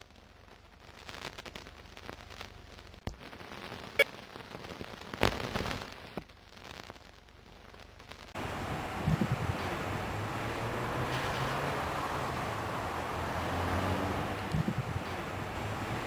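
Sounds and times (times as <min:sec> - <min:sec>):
outdoor ambience hiss: 0:00.0 - 0:16.0.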